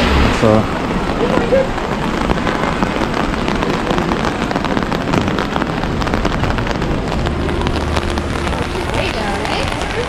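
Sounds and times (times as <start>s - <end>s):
rain on wet street: 0.0s - 10.0s
raindrops ticking: 0.0s - 10.0s
traffic noise: 0.0s - 10.0s.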